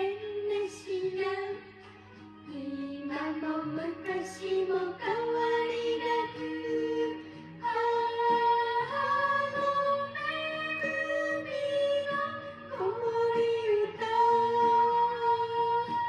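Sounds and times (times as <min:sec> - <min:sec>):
high voice singing lullaby: 0:00.0 - 0:01.8, 0:02.5 - 0:16.0.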